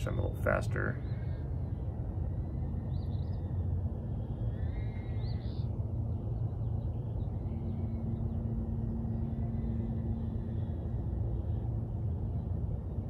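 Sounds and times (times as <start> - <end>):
drone motors and propellers: 0.0 - 13.0.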